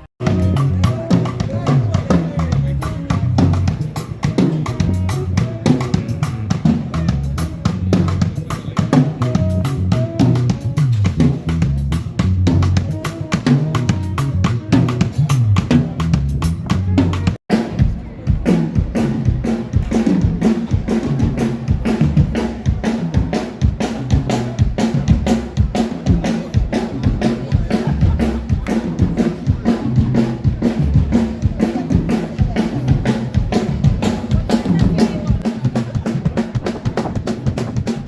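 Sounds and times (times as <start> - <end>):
bass line: 0.0 - 38.0
drum kit playing a beat: 0.0 - 38.0.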